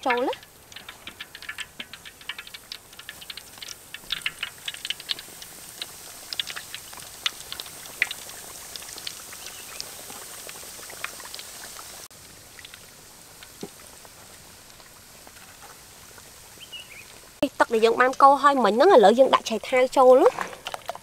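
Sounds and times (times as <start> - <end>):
chicken deep-frying in oil: 0.0 - 21.0.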